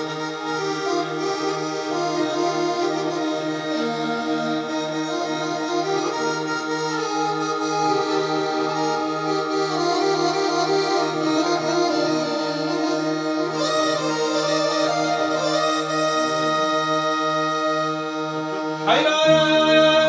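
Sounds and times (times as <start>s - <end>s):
keyboard melody: 0.0s - 20.0s.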